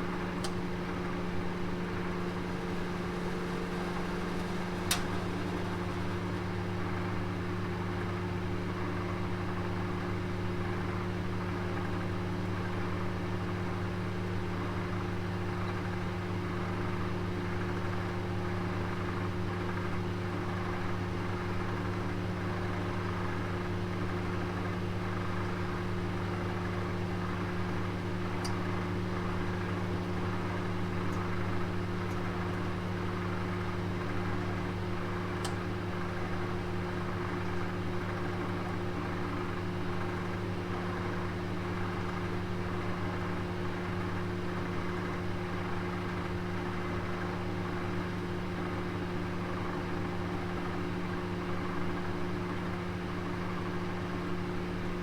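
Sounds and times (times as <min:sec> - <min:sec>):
oven hum and whir: 0:00.0 - 0:55.0.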